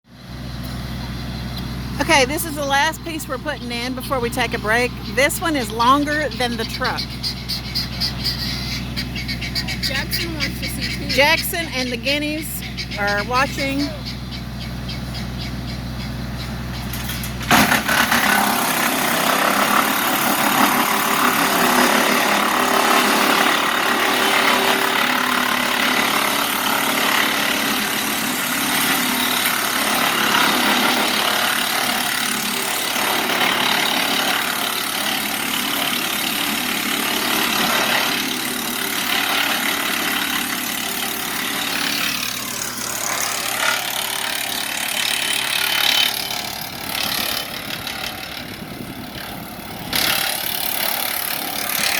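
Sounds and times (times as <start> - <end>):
wood chipper running: 0.1 - 51.9.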